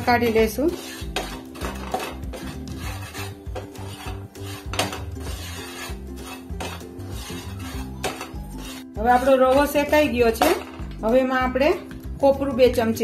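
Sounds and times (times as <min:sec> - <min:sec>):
wooden spatula scraping a pan: 0:00.0 - 0:10.6
soft background music: 0:00.0 - 0:13.0.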